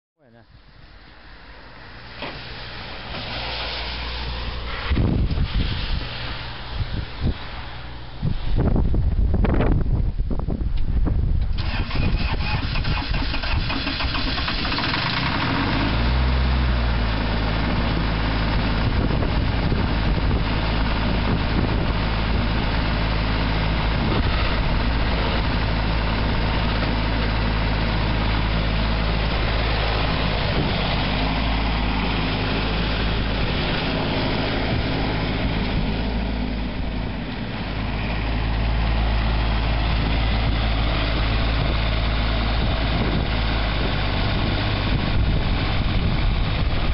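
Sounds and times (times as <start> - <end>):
diesel mower engine running: 0.7 - 10.3, 11.2 - 46.9.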